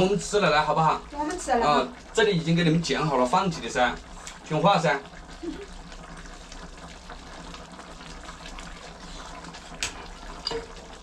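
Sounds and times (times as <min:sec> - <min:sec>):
pot bubbling on stove: 0:00.0 - 0:11.0.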